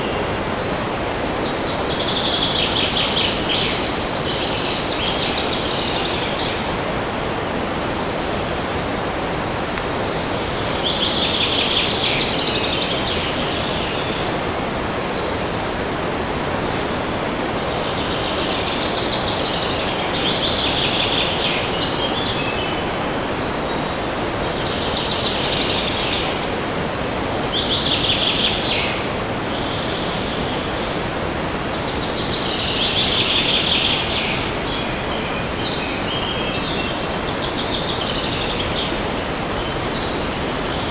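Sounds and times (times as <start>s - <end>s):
wind in forest: 0.0s - 40.9s.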